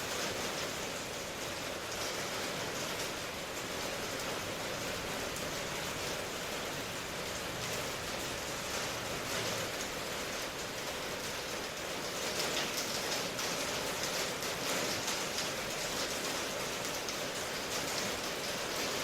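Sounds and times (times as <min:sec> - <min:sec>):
raindrops pattering on a surface: 0:00.0 - 0:19.0
steady rain: 0:00.0 - 0:19.0.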